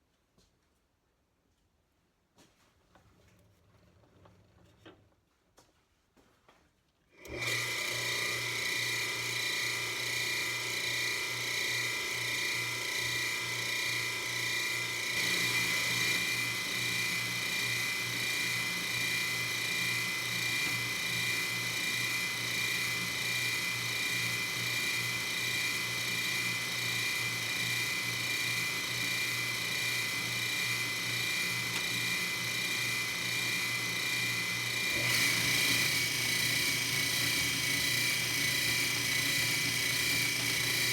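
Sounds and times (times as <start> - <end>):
metal lathe whining: 7.2 - 40.9.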